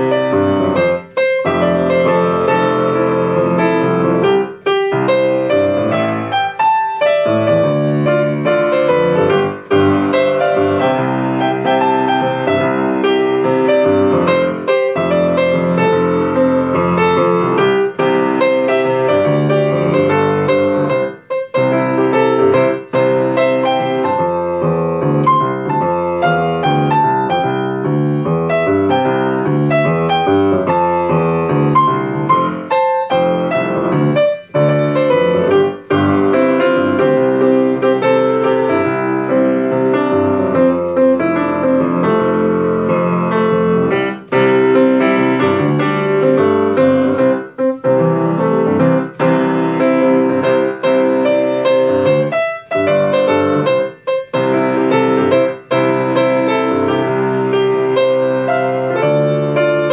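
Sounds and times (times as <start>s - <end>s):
solo grand piano playing: 0.0s - 59.9s.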